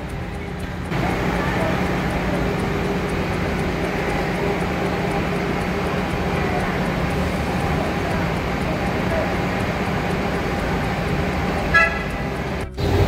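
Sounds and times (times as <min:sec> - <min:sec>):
street traffic: 0:00.0 - 0:13.0
truck engine droning: 0:00.0 - 0:13.0.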